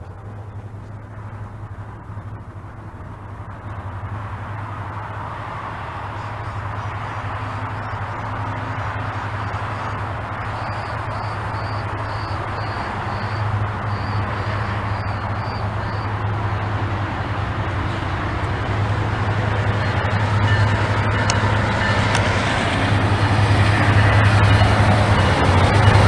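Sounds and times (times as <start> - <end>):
diesel locomotive engine drone: 0.0 - 26.0
train rumbling roar: 0.0 - 26.0.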